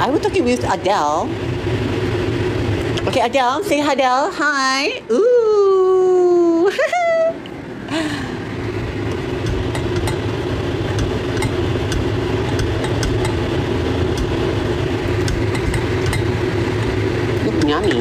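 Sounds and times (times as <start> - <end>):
pot boiling on gas hob: 0.0 - 6.7, 8.4 - 18.0.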